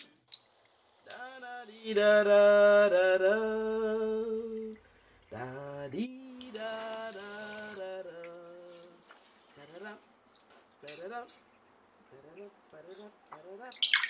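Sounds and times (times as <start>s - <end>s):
person singing slow melody: 1.0s - 10.1s, 10.8s - 11.4s, 12.1s - 13.8s.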